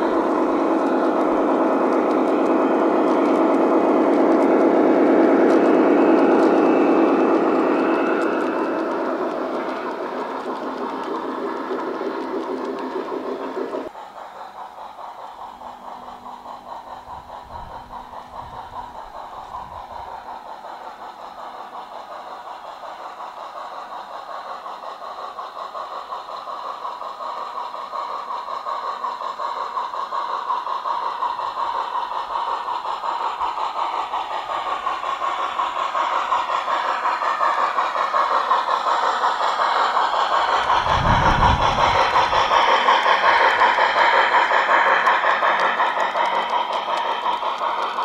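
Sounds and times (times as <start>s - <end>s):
model steam locomotive: 0.0s - 48.0s.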